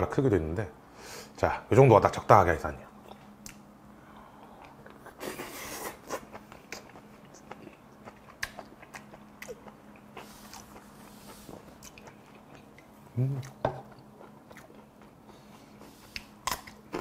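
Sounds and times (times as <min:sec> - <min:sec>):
man chewing food: 0:03.1 - 0:17.0.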